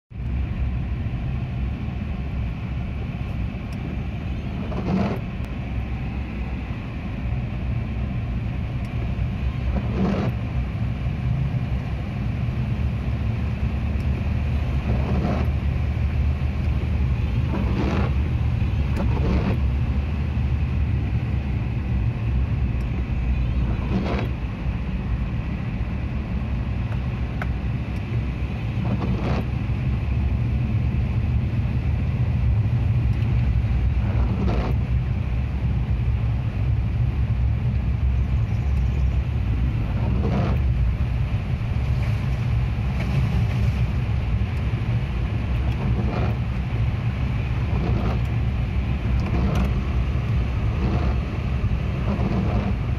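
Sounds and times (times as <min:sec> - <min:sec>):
car engine and tyres rumbling: 0:00.1 - 0:52.9
windscreen wipers swishing: 0:00.2 - 0:52.9.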